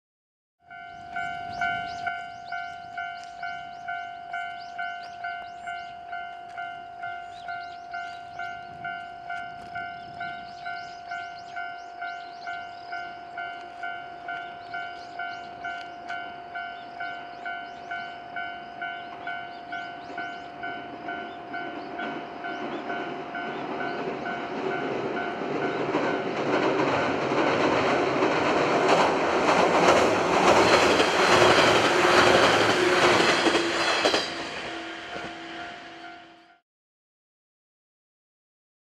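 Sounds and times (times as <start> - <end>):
level crossing alarm ringing: 0.6 - 36.6
train wheels on rails: 0.7 - 36.6.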